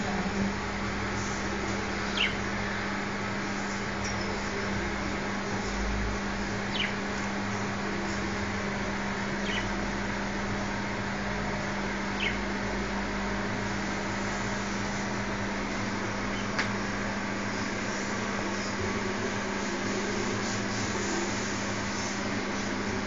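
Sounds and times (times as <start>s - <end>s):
background hum and hiss: 0.0s - 23.0s.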